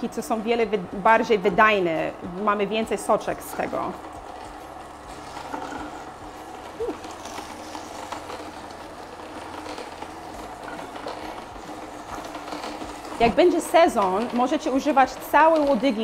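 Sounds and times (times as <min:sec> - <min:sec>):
juicer motor hum: 0:00.0 - 0:16.0.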